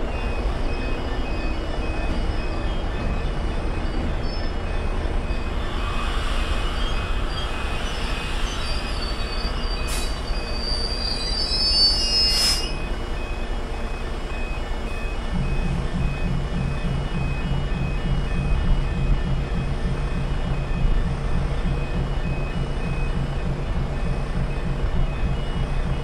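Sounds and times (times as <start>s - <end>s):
freight train rumbling past: 0.0s - 26.0s
level crossing alarm beeps: 0.0s - 26.0s
train wheel squeal: 0.0s - 26.0s.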